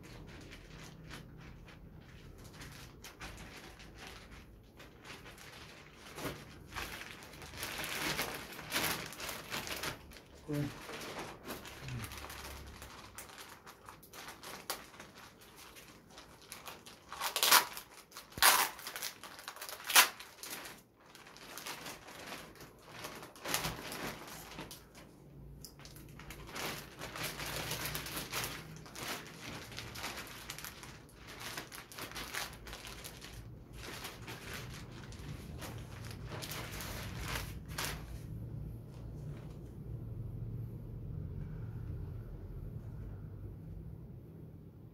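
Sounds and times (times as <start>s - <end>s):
loud sharp plastic crackles: 0.0s - 38.5s
plastic wrapping crinkling: 0.0s - 39.8s.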